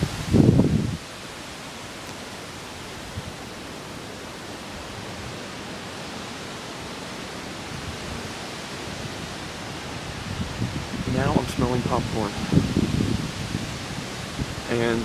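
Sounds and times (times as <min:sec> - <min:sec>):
storm wind rushing through trees: 0:00.0 - 0:15.0.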